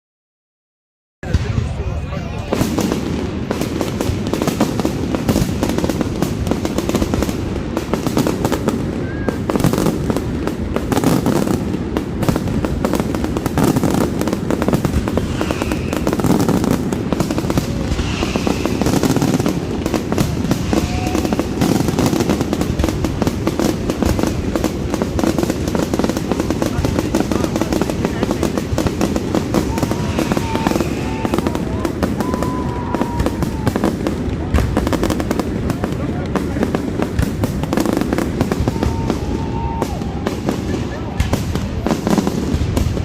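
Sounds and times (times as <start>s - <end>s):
fireworks bangs and crackling: 1.2s - 43.0s.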